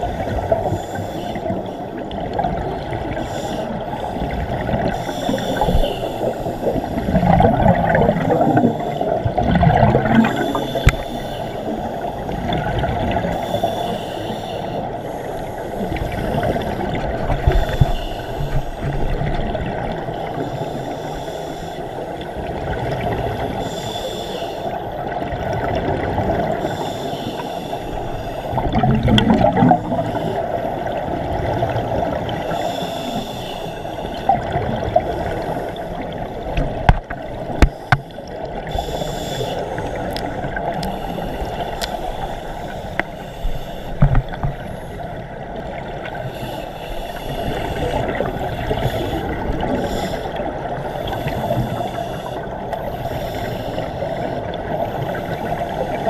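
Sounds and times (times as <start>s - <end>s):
underwater bubbling: 0.0s - 56.0s.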